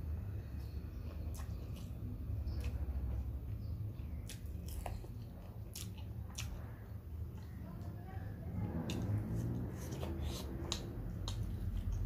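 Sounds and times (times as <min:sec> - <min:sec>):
chewing food: 0:00.3 - 0:12.0.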